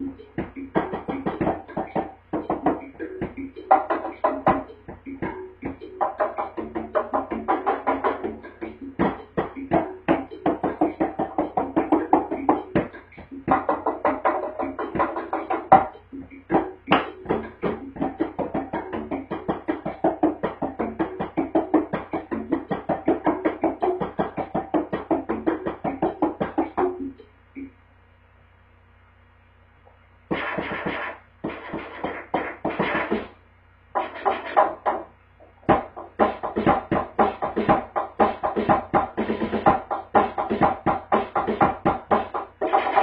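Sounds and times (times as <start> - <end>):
drum kit playing: 0.0 - 27.2, 30.3 - 43.0.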